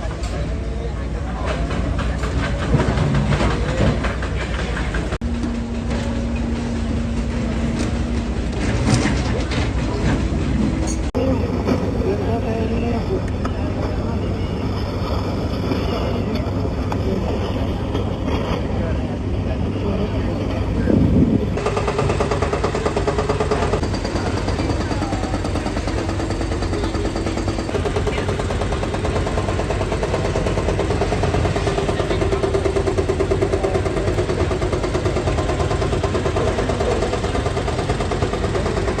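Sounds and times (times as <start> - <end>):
large engine running: 0.0 - 39.0.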